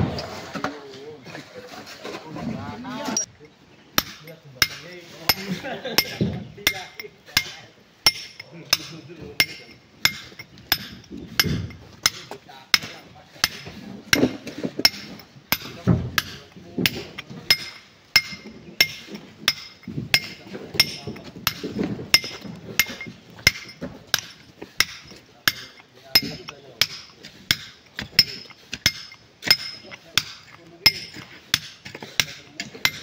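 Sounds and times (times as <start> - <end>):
hammer striking metal chisel: 4.0 - 33.0.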